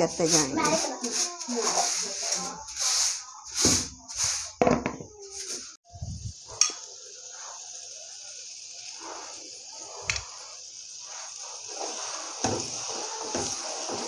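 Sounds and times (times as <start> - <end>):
vegetables sizzling in hot oil: 0.0 - 4.6, 5.2 - 14.0.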